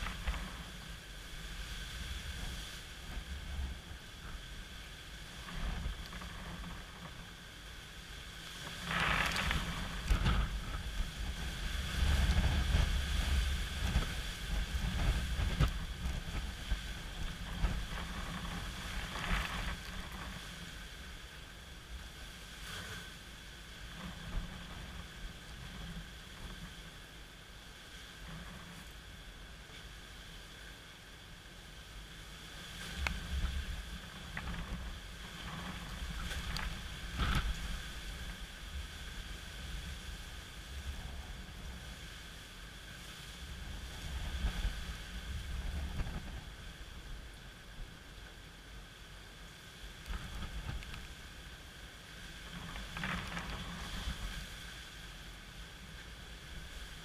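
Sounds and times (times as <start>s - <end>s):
gusty wind buffeting microphone: 0.0s - 30.3s, 31.8s - 48.6s, 49.5s - 57.0s
rain hiss: 0.0s - 57.0s.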